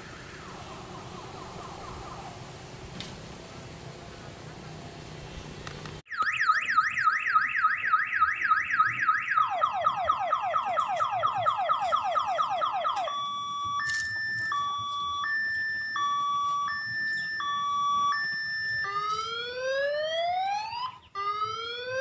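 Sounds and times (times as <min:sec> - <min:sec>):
electronic multi-tone siren: 0:00.0 - 0:02.8, 0:06.1 - 0:22.0.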